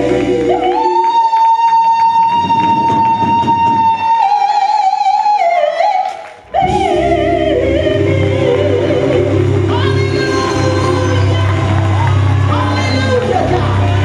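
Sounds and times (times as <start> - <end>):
low accompaniment: 0.0 - 4.3, 6.4 - 14.0
woman singing gospel: 0.0 - 14.0.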